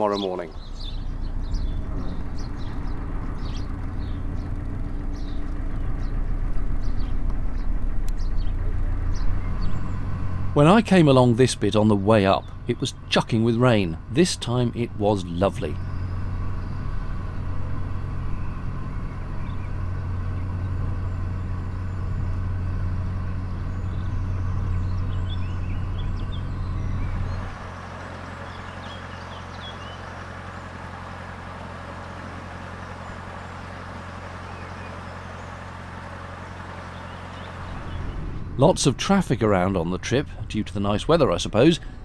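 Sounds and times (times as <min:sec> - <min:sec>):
diesel boat engine humming: 0:00.0 - 0:42.0.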